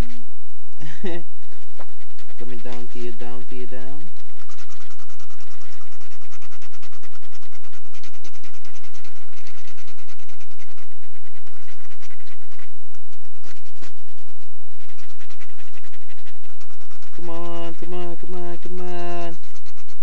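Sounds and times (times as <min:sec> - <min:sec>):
scratch-off tickets being scratched: 0:00.0 - 0:00.2, 0:00.9 - 0:20.0
steady low hum: 0:00.0 - 0:20.0.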